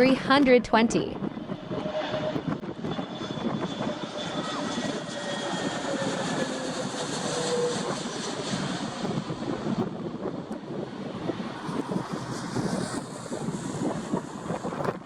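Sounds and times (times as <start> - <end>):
jet airliner engine whine: 0.0 - 15.0.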